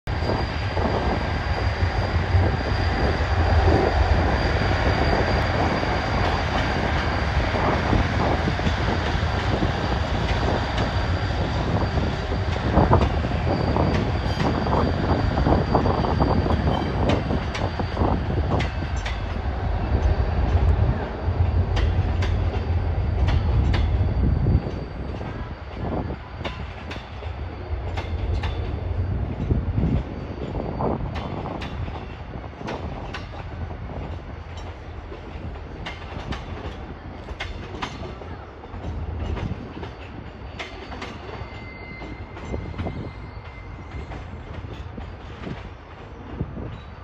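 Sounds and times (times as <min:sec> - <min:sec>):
diesel locomotive engine rumble: 0:00.0 - 0:47.0
train rolling noise: 0:00.0 - 0:47.0.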